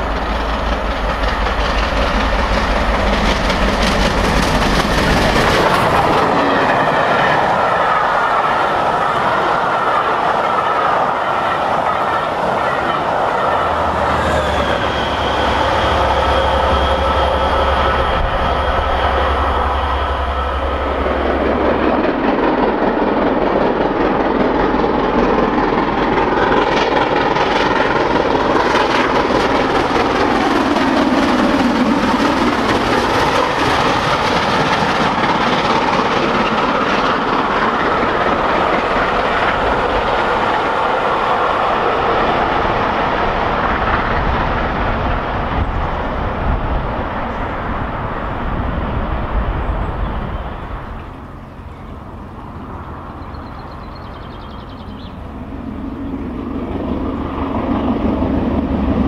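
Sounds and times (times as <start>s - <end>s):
steam train passing at speed: 0.0s - 59.0s.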